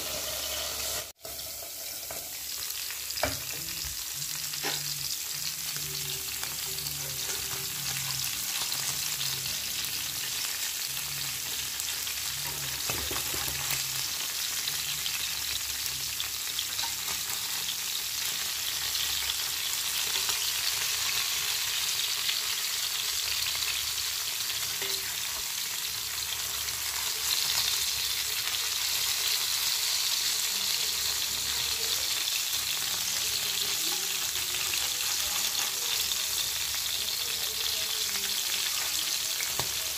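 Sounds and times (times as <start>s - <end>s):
fish sizzling in oil: 0.0s - 39.9s.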